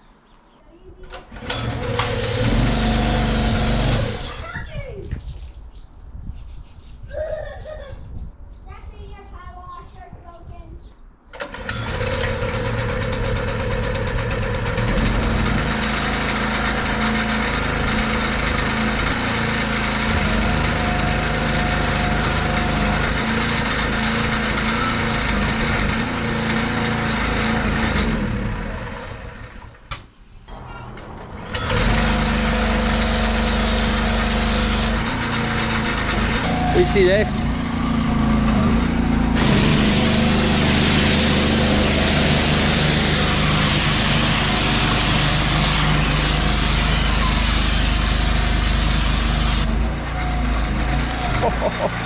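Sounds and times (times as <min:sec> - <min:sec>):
pressure washer running: 0:01.3 - 0:04.4, 0:11.4 - 0:29.8, 0:31.3 - 0:52.0.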